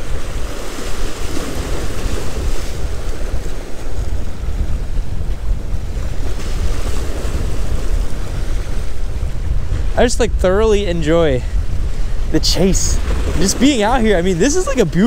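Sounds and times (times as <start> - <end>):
waves breaking on rocks: 0.0 - 15.0
wind buffeting microphone: 0.0 - 15.0.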